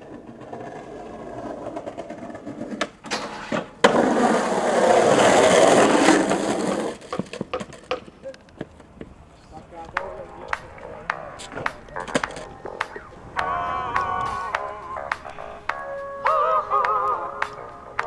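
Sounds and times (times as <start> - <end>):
skateboard scraping: 0.0 - 17.2
skateboard clacks: 0.0 - 18.0
skateboard wheels rolling on concrete: 0.0 - 18.0.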